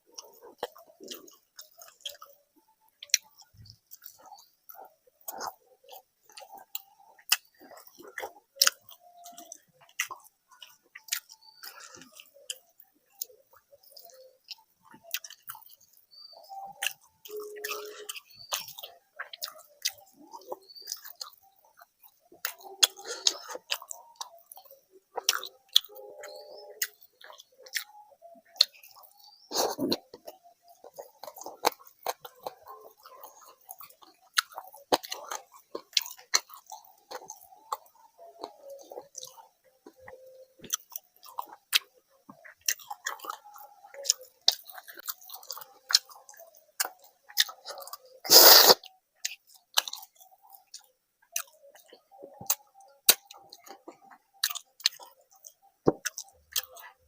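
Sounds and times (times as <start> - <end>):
chewing and wet mouth sounds: 0.0 - 57.0
mouth clicks and smacks: 2.9 - 57.0.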